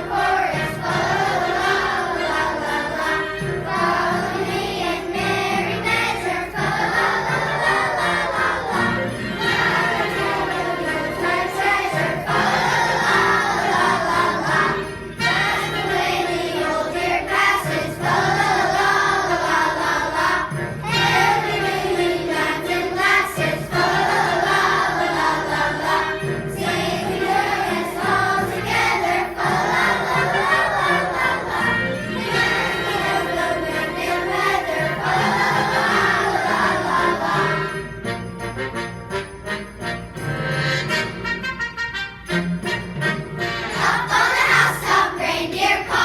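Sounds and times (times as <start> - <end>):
children's choir singing: 0.0 - 41.5, 42.6 - 46.0
instrumental accompaniment: 0.0 - 46.0.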